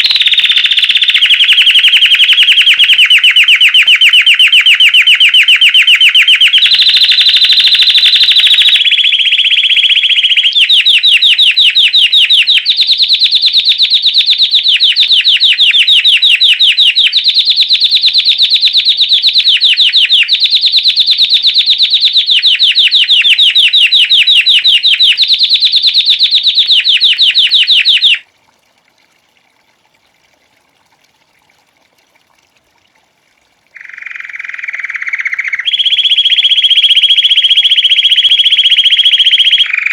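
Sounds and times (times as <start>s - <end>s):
canary singing fast trills: 0.0s - 28.2s, 33.8s - 39.9s.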